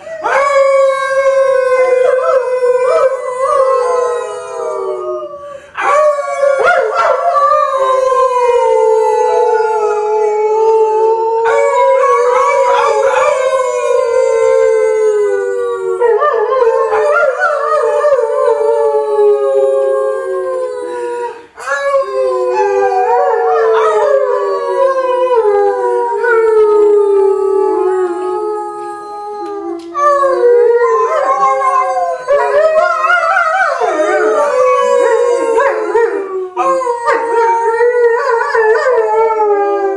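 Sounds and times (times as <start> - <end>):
dog howling: 0.0 - 39.9
other voices howling: 0.0 - 39.9.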